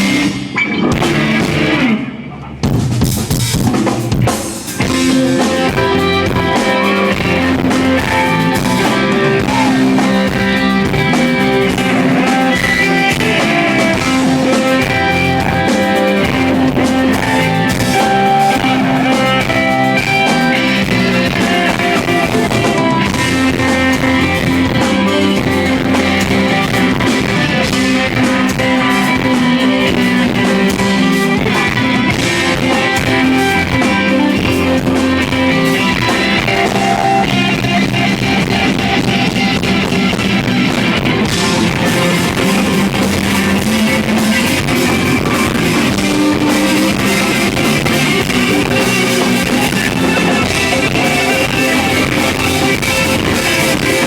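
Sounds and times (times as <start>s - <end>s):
drum kit: 0.0s - 54.0s
guitars: 0.0s - 54.0s
live rock band playing: 0.0s - 54.0s.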